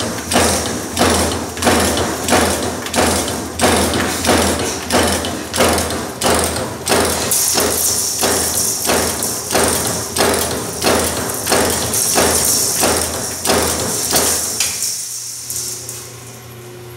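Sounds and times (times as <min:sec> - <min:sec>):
punch press metallic thumps: 0:00.0 - 0:14.6.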